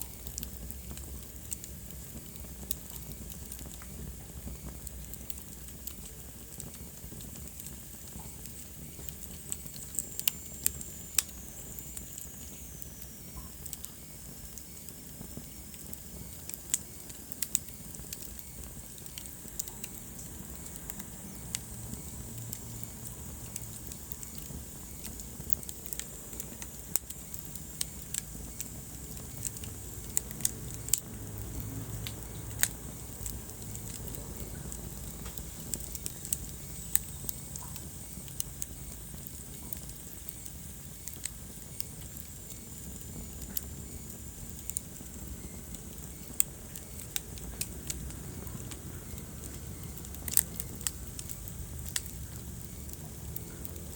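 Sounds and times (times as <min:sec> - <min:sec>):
fire hiss and rumble: 0:00.0 - 0:53.9
fire pops: 0:00.0 - 0:53.9
wood fire crackling: 0:00.0 - 0:53.9.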